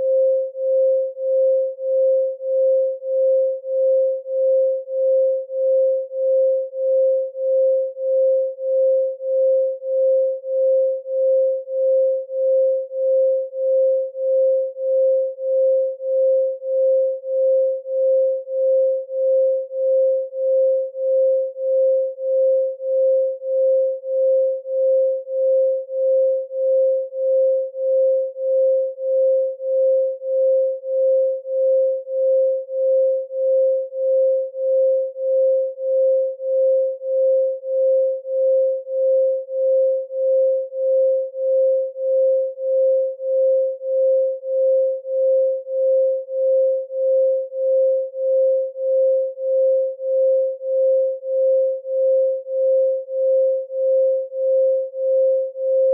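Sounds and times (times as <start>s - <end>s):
pulsing sine tone: 0.0s - 55.9s.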